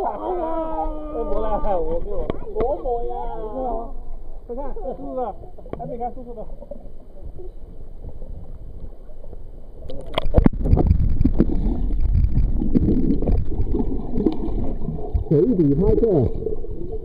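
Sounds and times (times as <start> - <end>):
hot tub water churning and bubbling: 0.0 - 17.0.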